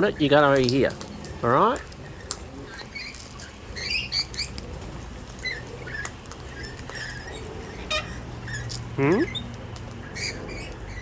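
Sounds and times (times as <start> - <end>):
parrots squeaking and chirping: 0.0 - 11.0.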